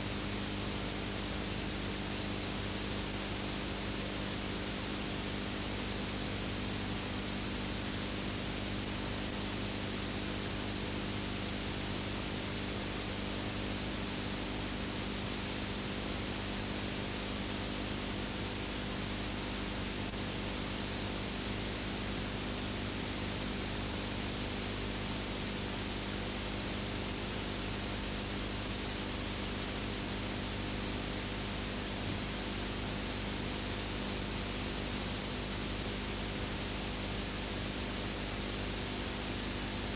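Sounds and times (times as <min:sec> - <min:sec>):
low electrical hum: 0:00.0 - 0:17.7, 0:18.4 - 0:39.9.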